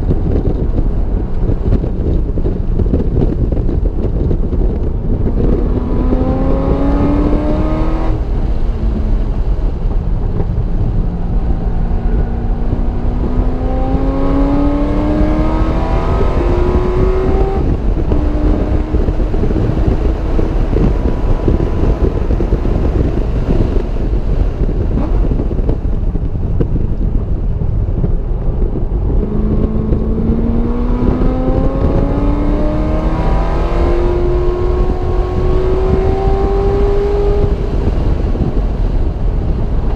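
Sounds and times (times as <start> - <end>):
car engine accelerating: 0.0 - 39.9
road noise: 0.0 - 39.9
wind noise: 0.0 - 39.9.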